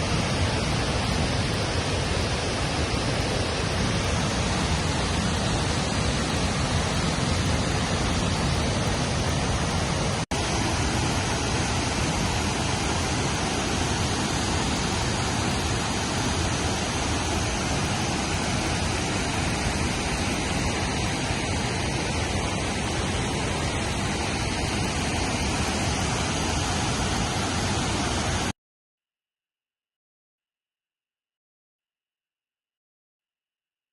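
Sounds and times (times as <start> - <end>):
steady rushing noise: 0.0 - 28.5.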